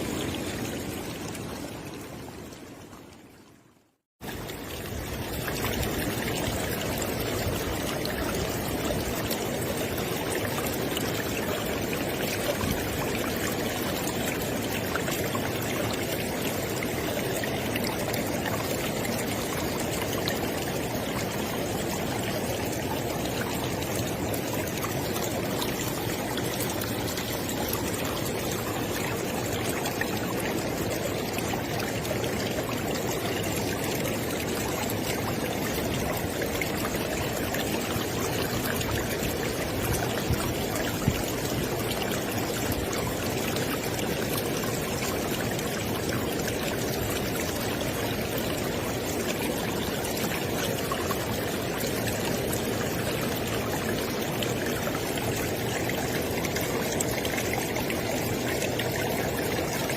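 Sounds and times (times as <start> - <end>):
river water rushing: 0.0 - 3.2, 4.2 - 59.9.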